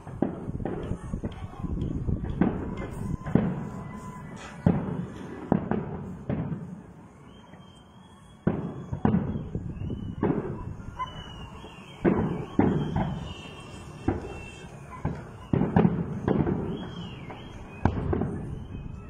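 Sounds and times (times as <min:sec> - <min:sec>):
firework bangs: 0:00.0 - 0:19.0.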